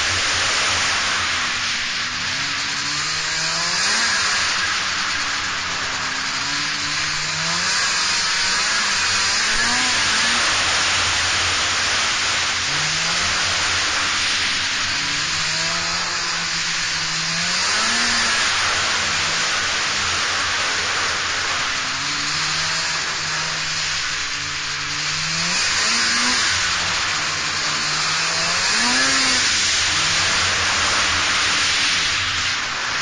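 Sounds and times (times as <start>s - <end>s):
snowmobile engine revving: 0.0s - 33.0s
steady rushing noise: 0.0s - 33.0s.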